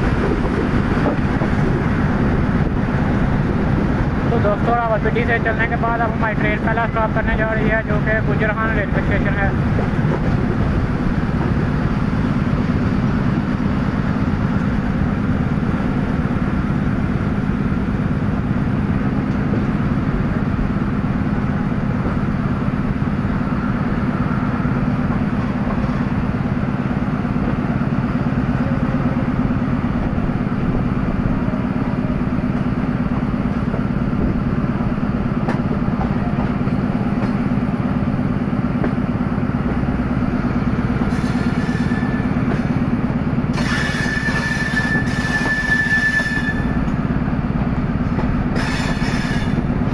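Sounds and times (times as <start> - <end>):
train engine drone: 0.0 - 49.9.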